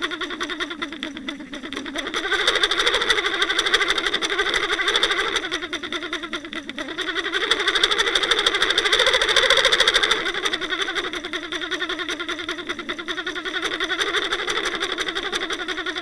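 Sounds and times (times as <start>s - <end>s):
fast even ticking: 0.0s - 16.0s.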